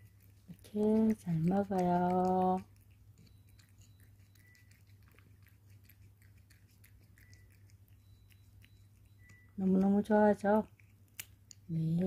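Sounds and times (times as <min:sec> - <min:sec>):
cat chewing crunchy treats: 0:00.0 - 0:12.0
low steady hum: 0:00.0 - 0:12.0.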